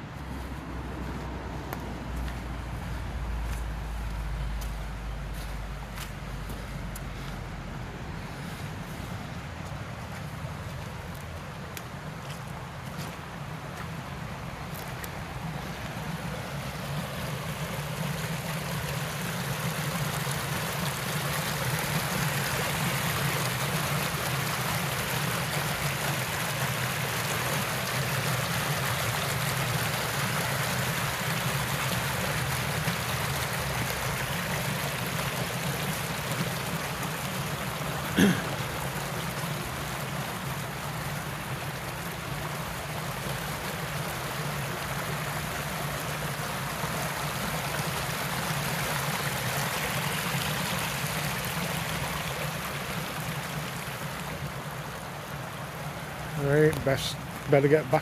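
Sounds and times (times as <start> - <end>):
water rushing down a channel: 0.1 - 58.0.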